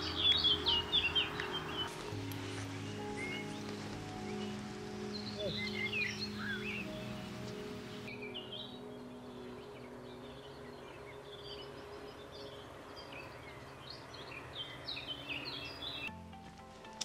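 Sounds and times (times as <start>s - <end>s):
small birds chirping: 0.0s - 16.2s
steady outdoor hiss: 0.0s - 17.0s.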